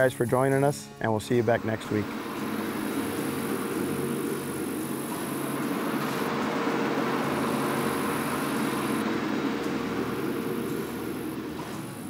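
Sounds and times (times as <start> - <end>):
vehicle engine running: 1.3 - 12.0.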